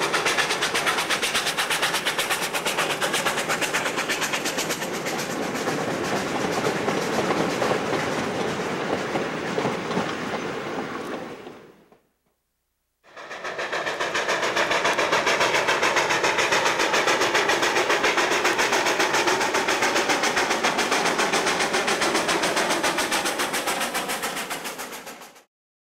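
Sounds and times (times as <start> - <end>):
steam locomotive exhaust beats: 0.0 - 12.0, 13.0 - 25.5.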